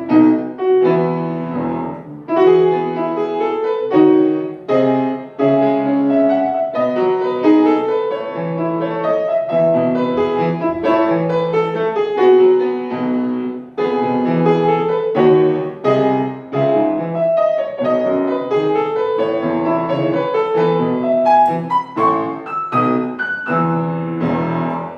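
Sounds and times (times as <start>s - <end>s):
solo piano music: 0.0s - 24.9s.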